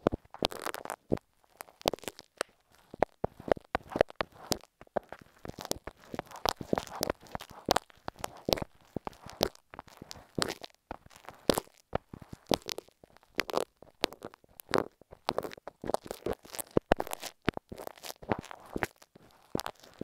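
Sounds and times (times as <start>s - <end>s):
glue stick crackling on microphone: 0.0s - 20.0s.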